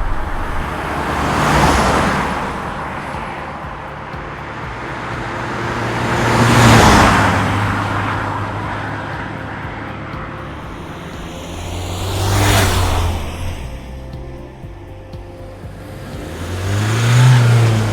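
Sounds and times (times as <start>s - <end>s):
van driving past: 0.0s - 17.9s.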